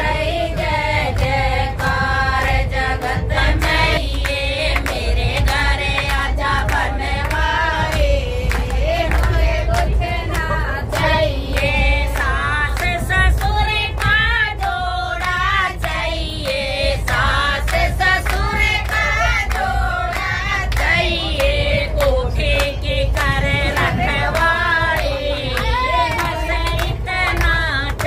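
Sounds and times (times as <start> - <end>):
group singing devotional song: 0.0 - 28.0
train rumble: 0.0 - 28.0
hands clapping to the beat: 0.2 - 28.0.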